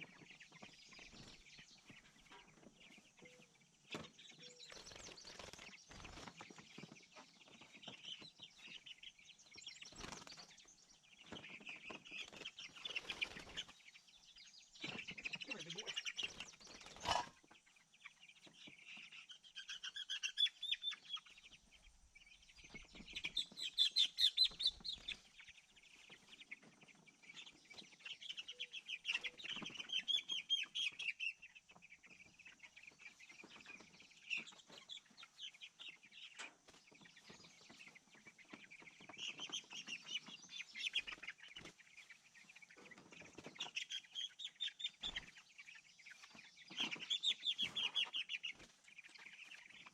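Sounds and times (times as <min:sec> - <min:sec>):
chickens chirping and clucking: 0:00.0 - 0:49.9.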